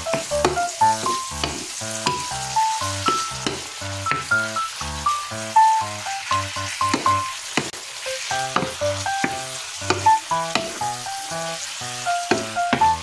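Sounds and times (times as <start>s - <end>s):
bouncy background music: 0.0s - 7.4s, 8.1s - 13.0s
meat sizzling in a frying pan: 0.0s - 13.0s.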